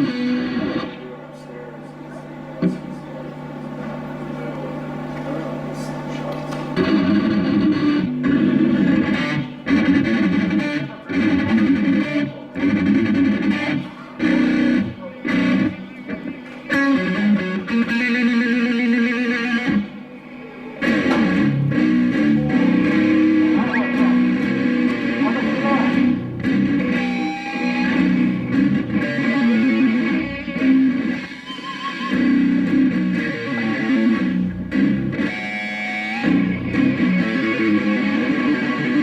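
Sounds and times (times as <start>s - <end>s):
distorted electric guitar riffs: 0.0s - 1.3s, 2.3s - 39.0s.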